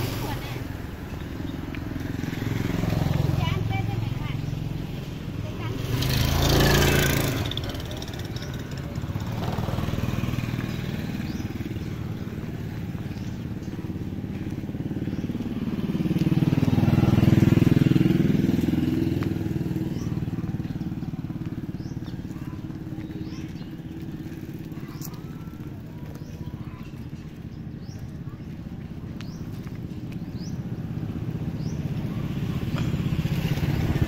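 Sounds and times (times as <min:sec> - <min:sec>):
motorbike engine running: 0:00.1 - 0:34.0.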